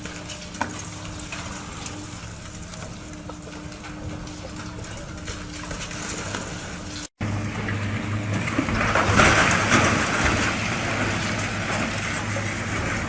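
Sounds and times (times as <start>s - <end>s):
heavy machinery engines running: 0.0s - 13.0s.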